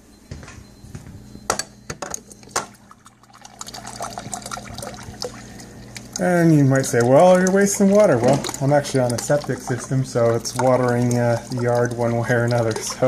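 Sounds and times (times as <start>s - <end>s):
low steady hum: 0.0s - 13.0s
water running into a glass: 2.2s - 13.0s.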